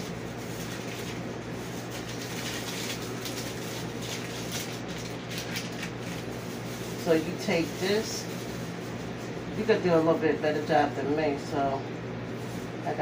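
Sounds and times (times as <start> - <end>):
room noise hum and hiss: 0.0 - 13.0.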